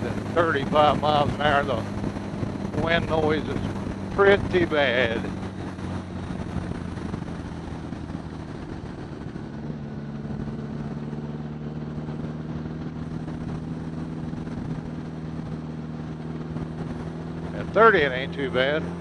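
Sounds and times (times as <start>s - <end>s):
wind noise over microphone: 0.0s - 18.0s
motorcycle engine cruising: 0.0s - 19.0s.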